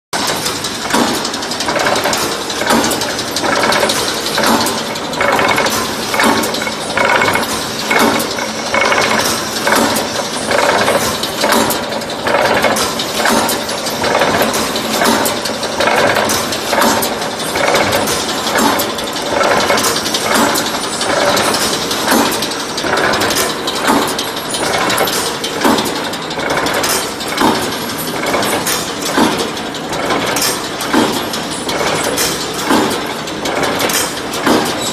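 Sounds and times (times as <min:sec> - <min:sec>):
mesh welding machine clattering: 0:00.2 - 0:34.9.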